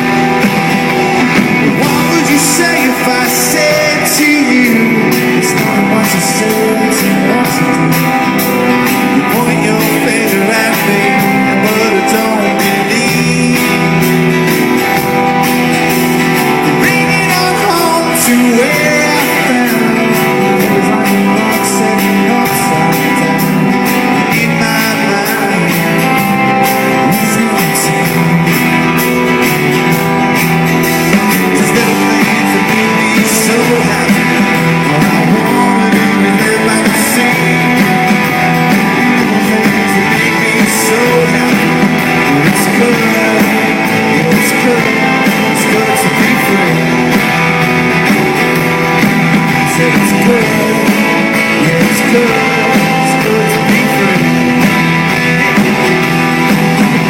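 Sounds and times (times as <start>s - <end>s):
electric guitars: 0.0s - 57.0s
rock band playing: 0.0s - 57.0s.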